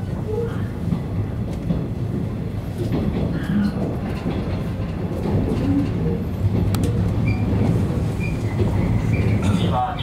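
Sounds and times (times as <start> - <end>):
train motors and wheels rumbling: 0.0 - 10.0.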